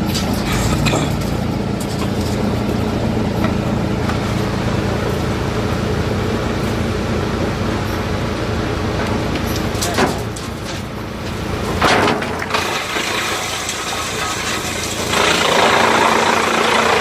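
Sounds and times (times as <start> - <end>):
diesel engine running: 0.0 - 17.0
wood chipper humming: 0.0 - 17.0.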